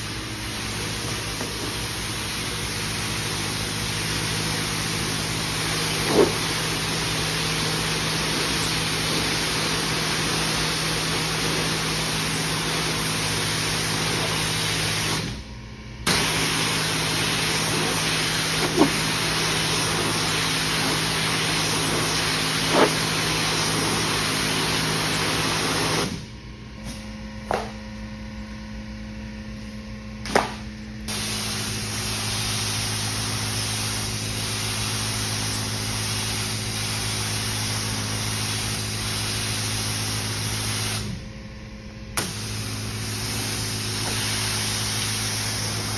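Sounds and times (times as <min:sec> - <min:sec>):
pressure washer spraying water: 0:00.0 - 0:15.3, 0:16.1 - 0:26.2, 0:31.1 - 0:41.1, 0:42.2 - 0:45.9
low machine hum: 0:00.0 - 0:45.9.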